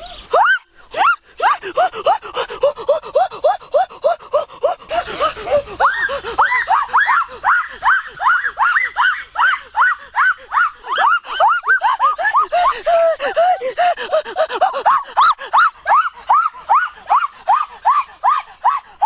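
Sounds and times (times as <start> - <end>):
shrill laughing cries: 0.0 - 19.0.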